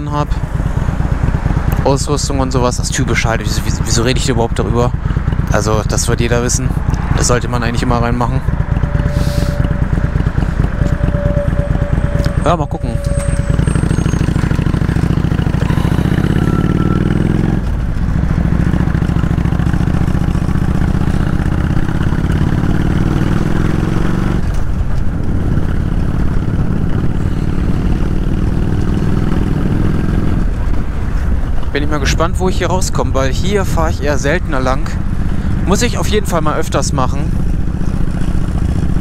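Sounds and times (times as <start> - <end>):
motorcycle engine accelerating: 0.0 - 31.7, 33.6 - 39.0.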